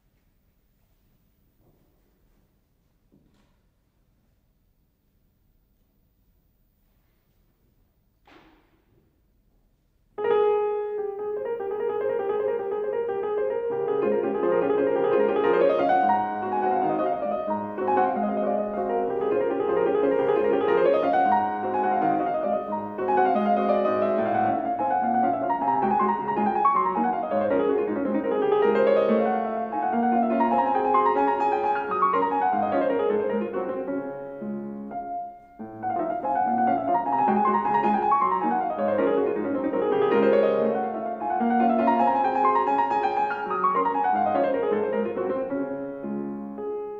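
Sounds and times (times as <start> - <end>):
solo classical piano: 0.0 - 46.9.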